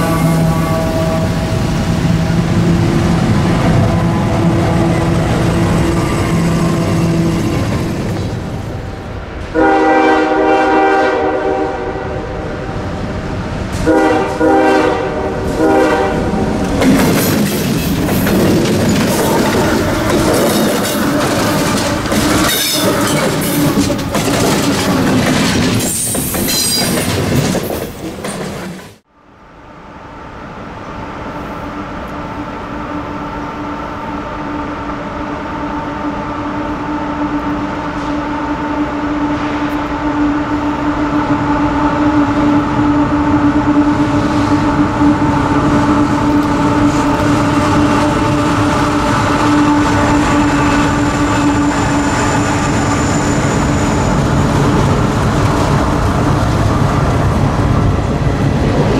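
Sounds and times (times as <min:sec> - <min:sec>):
diesel locomotives droning: 0:00.0 - 0:58.9
freight train passing: 0:00.0 - 0:58.9.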